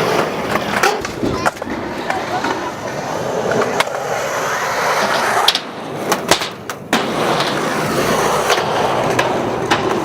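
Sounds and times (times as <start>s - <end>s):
skateboard clacks: 0.0s - 10.0s
skateboard wheels rolling: 0.0s - 10.0s.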